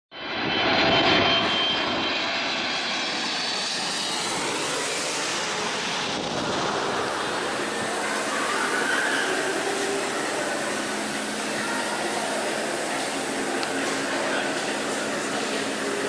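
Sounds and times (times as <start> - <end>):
jet engines running: 0.2 - 16.0.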